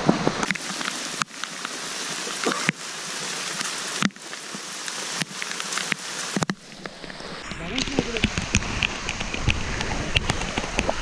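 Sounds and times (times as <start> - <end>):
rain falling on vegetation: 0.0 - 11.0.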